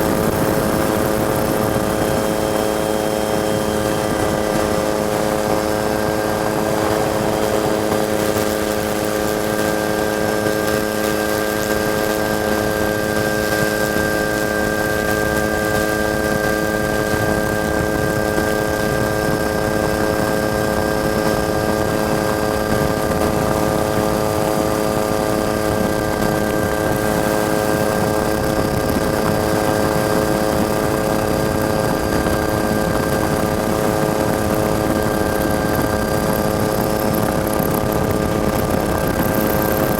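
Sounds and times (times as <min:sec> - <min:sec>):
helicopter engine drone: 0:00.0 - 0:39.9
rotor and wind noise: 0:00.0 - 0:39.9.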